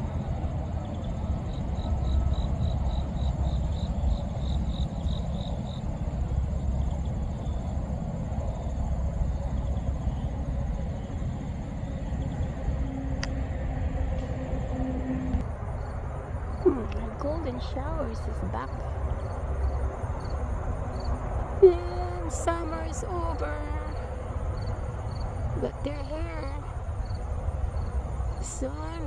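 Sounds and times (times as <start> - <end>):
insects trilling: 0.0 - 29.0
low rumble: 0.0 - 29.0.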